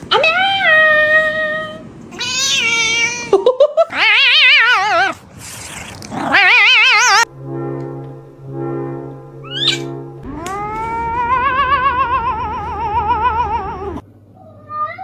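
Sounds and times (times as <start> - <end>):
cat yowling: 0.1 - 7.3, 9.4 - 15.0.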